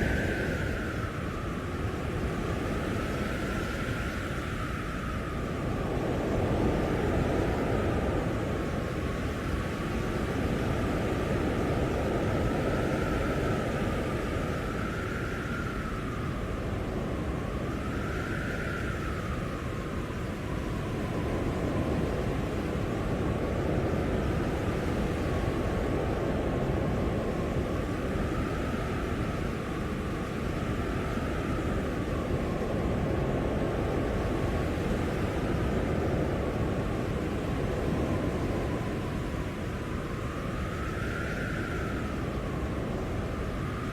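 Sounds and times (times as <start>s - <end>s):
blizzard wind blowing: 0.0s - 43.9s.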